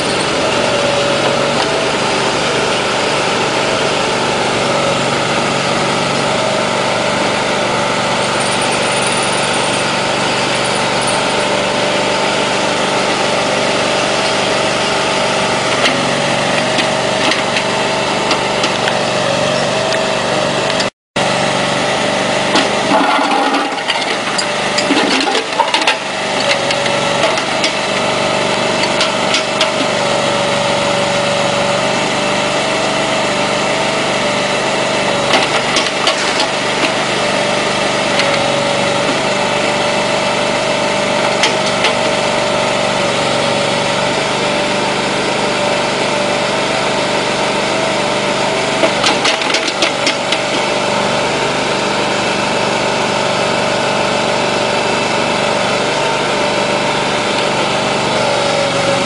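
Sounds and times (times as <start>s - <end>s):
hydraulic whine: 0.0s - 59.0s
small engine running: 0.0s - 59.0s.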